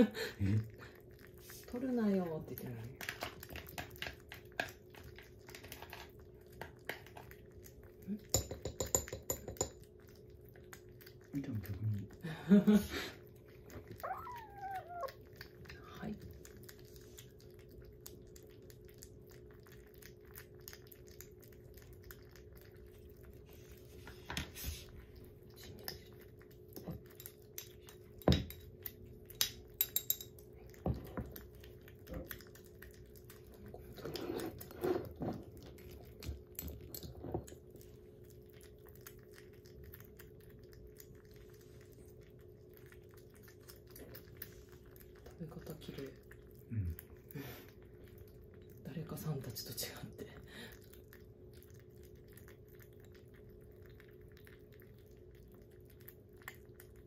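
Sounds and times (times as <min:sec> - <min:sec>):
kittens lapping and chewing: 0:00.0 - 0:57.0.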